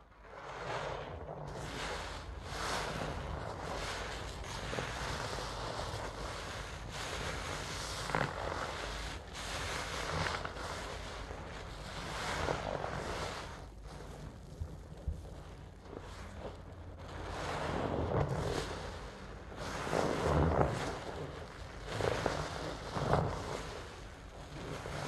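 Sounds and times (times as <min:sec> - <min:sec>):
sponge squelching in suds: 0:00.3 - 0:25.0.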